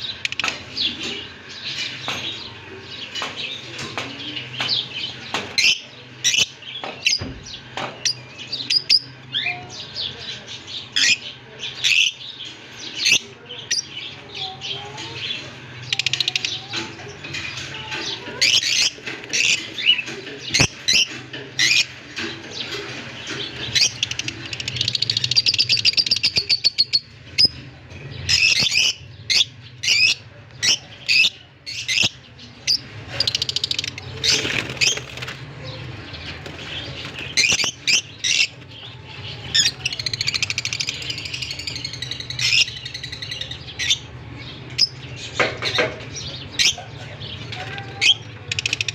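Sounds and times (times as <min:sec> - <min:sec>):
budgerigars chirping and warbling: 0:00.0 - 0:48.9.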